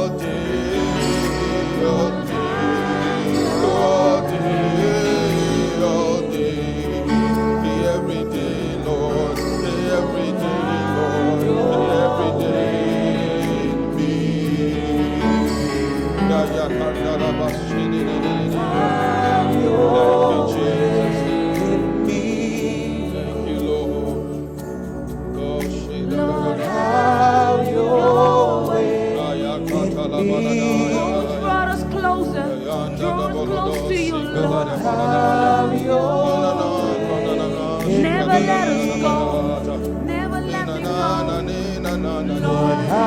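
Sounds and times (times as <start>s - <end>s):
band playing slow worship song: 0.0s - 43.0s
singers' voices: 0.0s - 43.0s
steady held chords: 0.0s - 43.0s.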